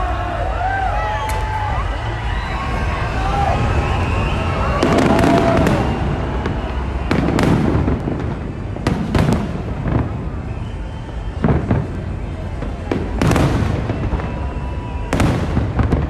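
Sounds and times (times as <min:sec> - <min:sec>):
fireworks bangs and crackles: 0:00.0 - 0:16.0
steady low rumble: 0:00.0 - 0:16.0.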